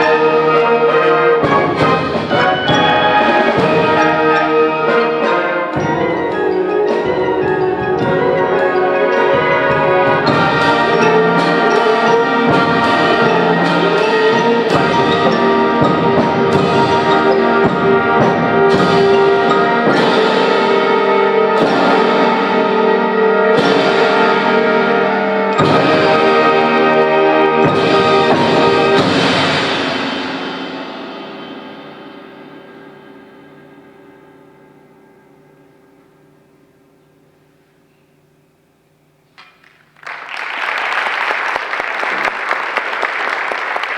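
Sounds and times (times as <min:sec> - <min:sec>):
symphonic band playing chords: 0:00.0 - 0:36.0
timpani hits: 0:00.0 - 0:36.0.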